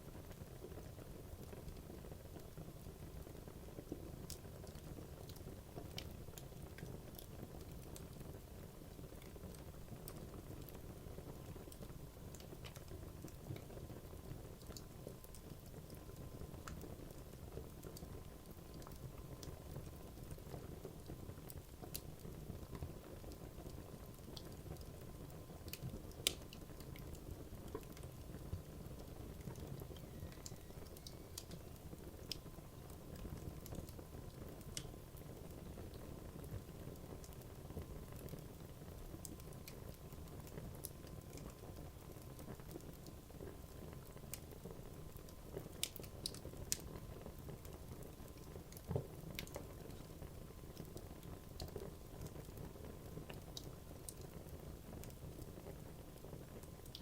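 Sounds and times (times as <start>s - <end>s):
fire burning: 0.0s - 57.0s.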